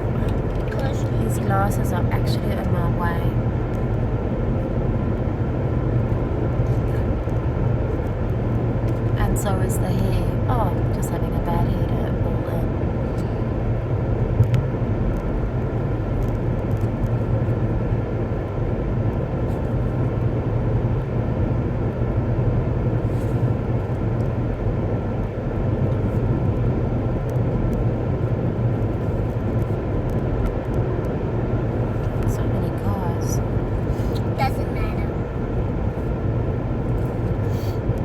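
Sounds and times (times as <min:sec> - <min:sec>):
car cabin road and engine noise: 0:00.0 - 0:38.0.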